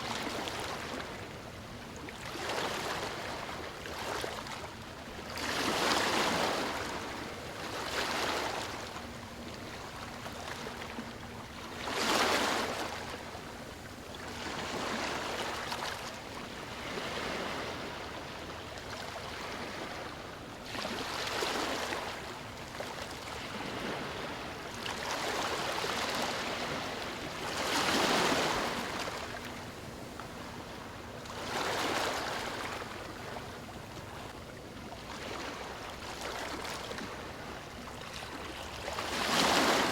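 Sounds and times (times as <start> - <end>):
ocean waves lapping on shore: 0.0 - 39.9.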